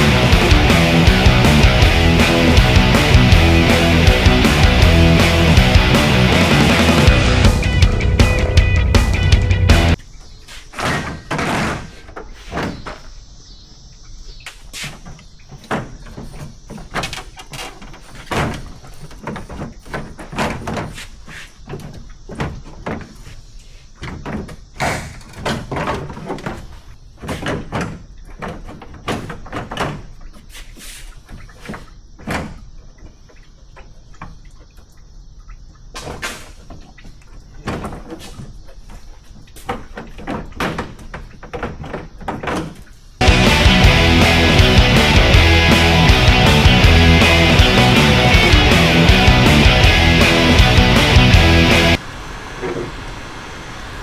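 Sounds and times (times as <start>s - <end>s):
knocks clunks and bangs: 0.0s - 13.8s, 14.4s - 34.9s, 35.8s - 53.6s.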